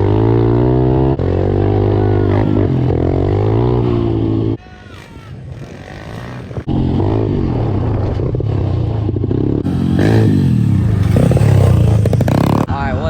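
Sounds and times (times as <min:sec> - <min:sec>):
pit bike engines revving: 0:00.0 - 0:12.9.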